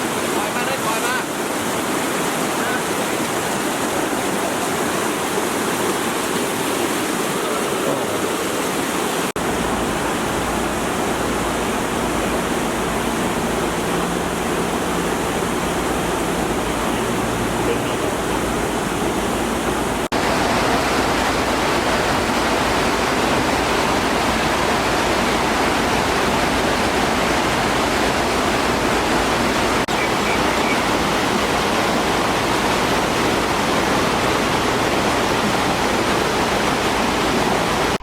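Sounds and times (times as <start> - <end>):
floodwater rushing: 0.0 - 38.0.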